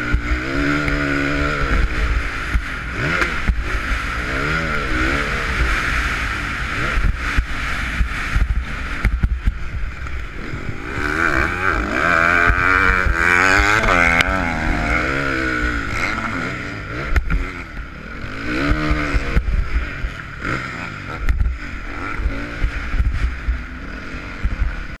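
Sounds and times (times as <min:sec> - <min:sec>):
motorcycle engine revving: 0:00.0 - 0:25.0
wind rumble on microphone: 0:00.0 - 0:25.0.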